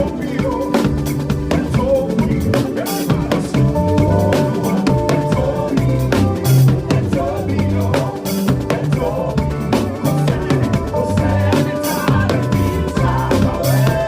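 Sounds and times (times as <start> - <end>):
bass line: 0.0 - 14.0
drum kit groove: 0.0 - 14.0
keyboard melody: 0.0 - 14.0.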